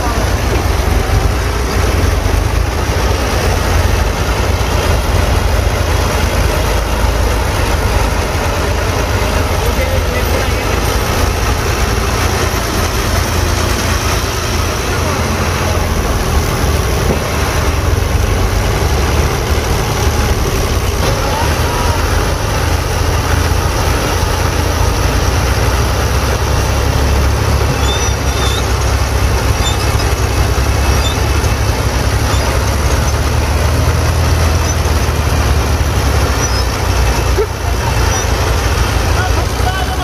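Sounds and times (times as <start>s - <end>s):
tractor diesel engine rumbling: 0.0s - 40.0s.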